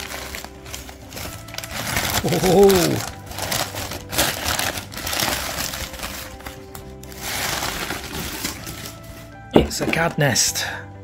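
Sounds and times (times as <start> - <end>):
paper and plastic crinkling: 0.0 - 10.1
background music: 0.0 - 11.0.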